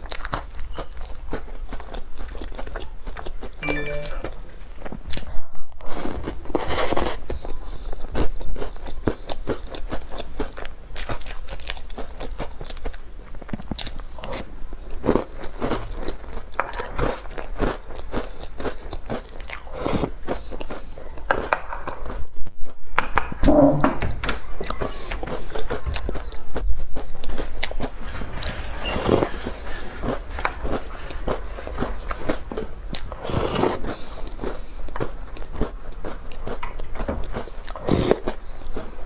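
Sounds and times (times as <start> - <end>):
crunchy chewing of food: 0.0 - 23.4, 24.4 - 39.0.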